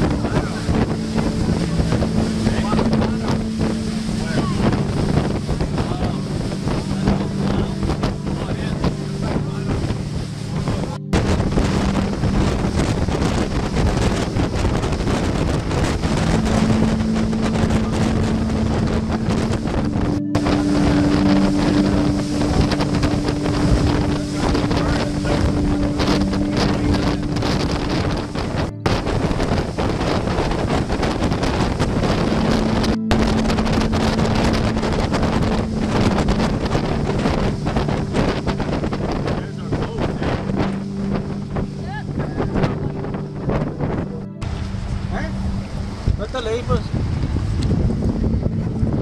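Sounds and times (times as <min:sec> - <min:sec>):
motorboat engine humming: 0:00.0 - 0:49.0
rushing water: 0:00.0 - 0:49.0
wind buffeting microphone: 0:00.0 - 0:49.0.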